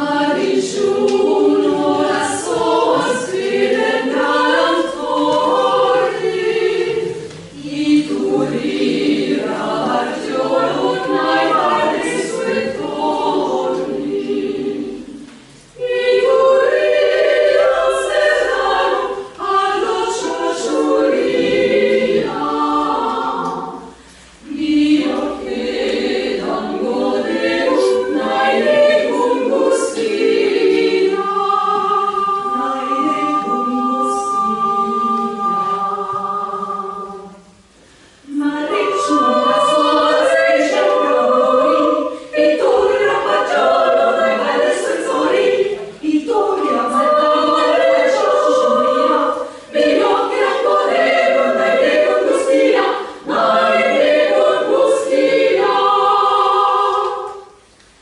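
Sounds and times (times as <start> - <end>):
women singing a cappella: 0.0 - 58.0.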